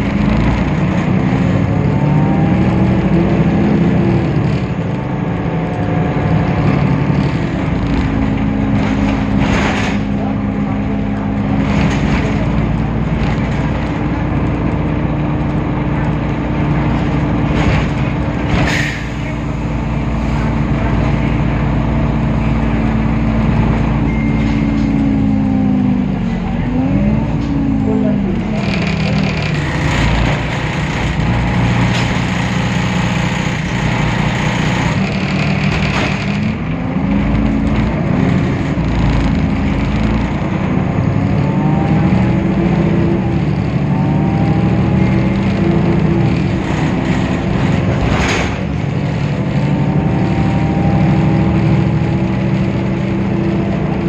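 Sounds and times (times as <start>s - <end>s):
bus diesel engine drone: 0.0s - 54.0s
road and body noise: 0.0s - 54.0s.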